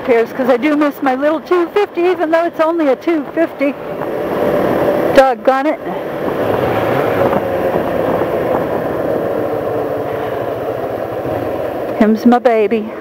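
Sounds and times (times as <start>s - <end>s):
wind and road noise: 0.0s - 13.0s
motorcycle engine running: 0.6s - 13.0s.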